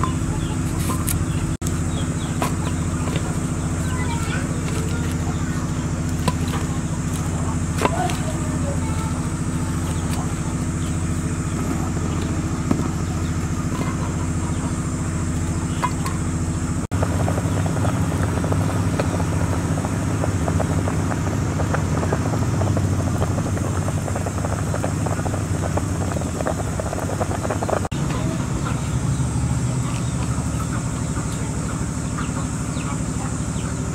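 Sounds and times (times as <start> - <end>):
low motor hum: 0.0 - 33.9
water boiling hard in pot: 0.0 - 33.9.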